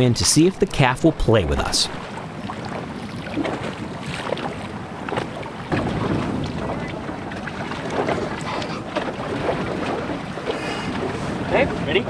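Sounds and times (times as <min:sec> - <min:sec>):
water slapping inflatable boat: 0:00.7 - 0:12.0
wind buffeting microphone: 0:02.0 - 0:12.0.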